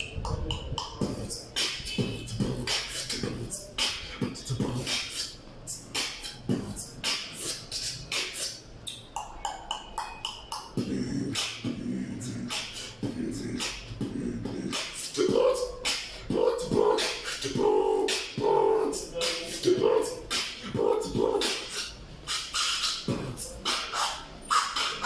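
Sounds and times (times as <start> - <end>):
beatboxing drum pattern: 0.0 - 25.0.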